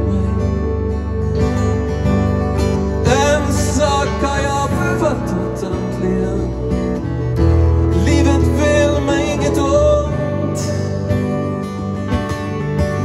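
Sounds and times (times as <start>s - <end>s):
acoustic guitars strummed: 0.0s - 13.0s
high melody line: 0.0s - 13.0s
sustained low bass: 0.0s - 13.0s.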